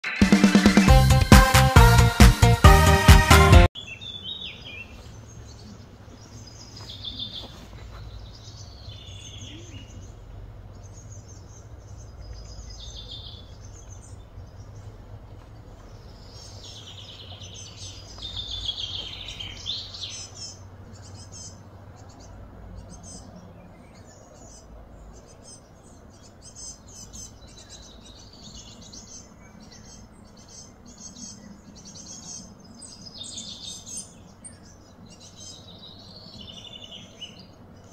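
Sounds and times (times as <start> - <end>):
small birds chirping: 3.8 - 37.9
low steady hum: 4.5 - 37.9.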